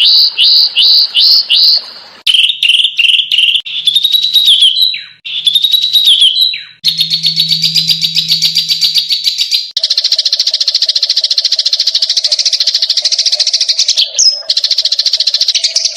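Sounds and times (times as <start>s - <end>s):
songbird singing: 0.0s - 9.8s, 11.2s - 15.9s.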